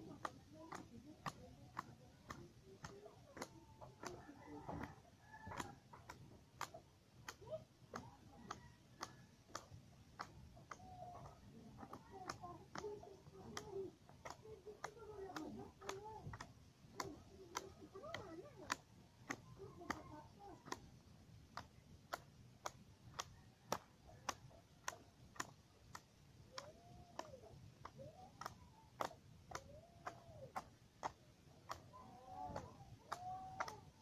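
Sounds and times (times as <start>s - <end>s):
faint steady ticking: 0.0s - 34.0s.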